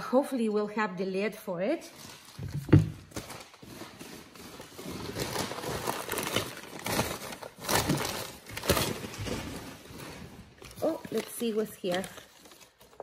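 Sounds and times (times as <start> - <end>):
paper crumpling and rustling: 2.0 - 13.0.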